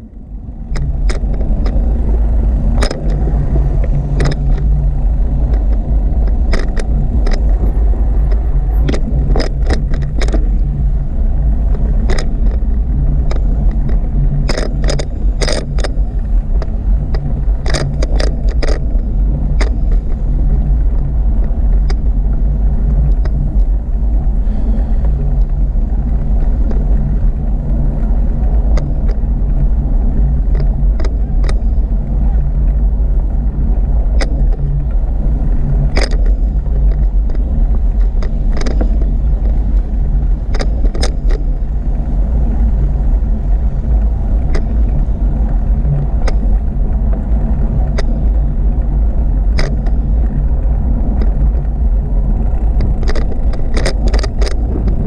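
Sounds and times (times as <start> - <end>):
bicycle clicks and rattles: 0.0 - 55.0
wind rumble: 0.0 - 55.0.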